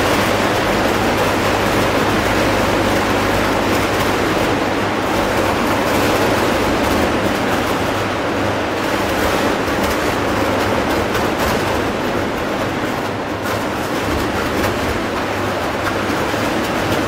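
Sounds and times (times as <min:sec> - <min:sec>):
electric arc furnace roaring: 0:00.0 - 0:17.0.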